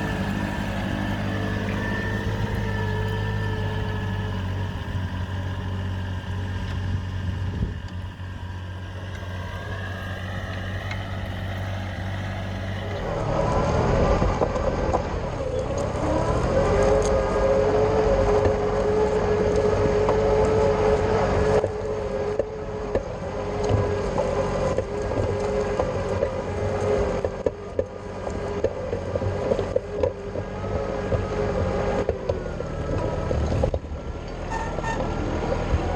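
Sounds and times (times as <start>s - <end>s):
tractor engine droning: 0.0s - 35.9s.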